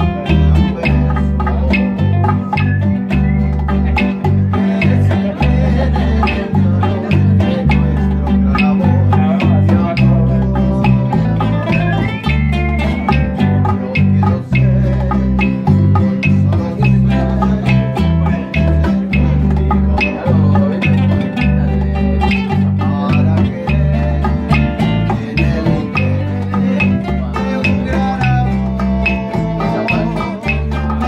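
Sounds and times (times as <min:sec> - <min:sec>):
deep bass notes: 0:00.0 - 0:31.0
plucked guitar-like notes: 0:00.0 - 0:31.0.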